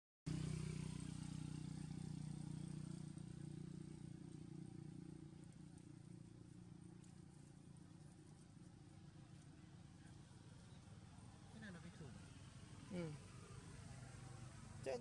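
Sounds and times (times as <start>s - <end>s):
vehicle engine hum: 0.3s - 15.0s.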